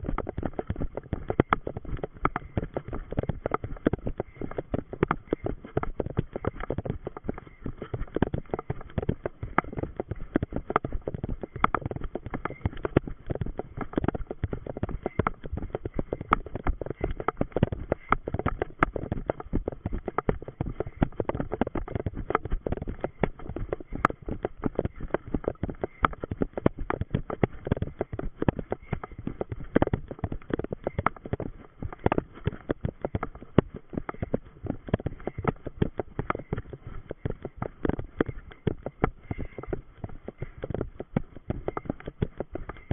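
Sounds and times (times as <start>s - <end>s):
running footsteps on trail: 0.0s - 42.9s.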